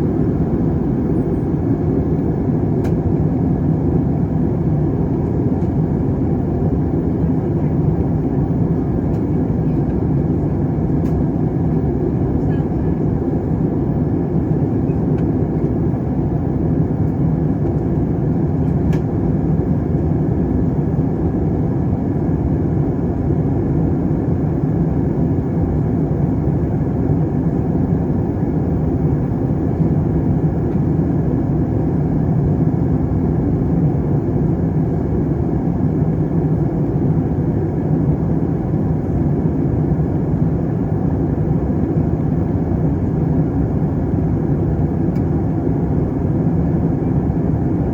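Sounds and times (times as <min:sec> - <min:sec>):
jet engine cabin drone: 0:00.0 - 0:47.9.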